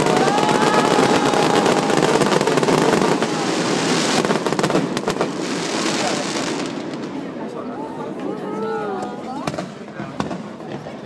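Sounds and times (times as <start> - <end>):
fireworks bursting and crackling: 0.0 - 8.3, 9.0 - 11.0.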